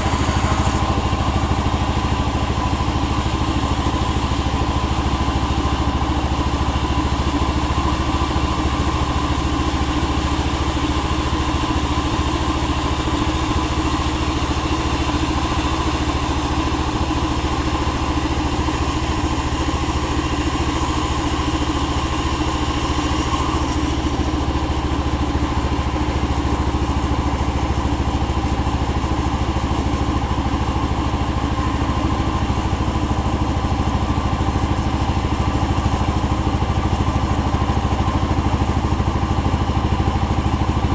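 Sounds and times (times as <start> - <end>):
chainsaw engine running: 0.0 - 40.9.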